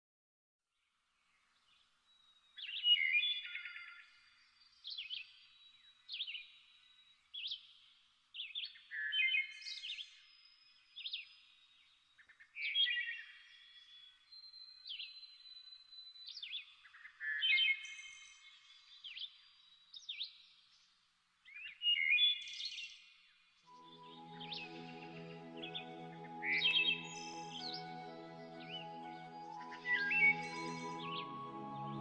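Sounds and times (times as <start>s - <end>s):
songbirds singing and calling: 1.3s - 32.0s.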